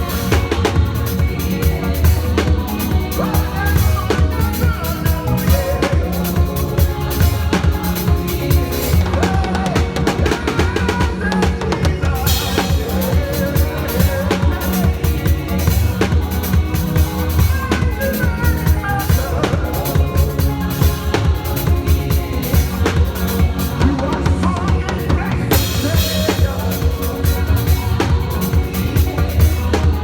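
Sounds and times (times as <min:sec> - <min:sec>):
drum kit beat: 0:00.0 - 0:30.0
loud bass: 0:00.0 - 0:30.0.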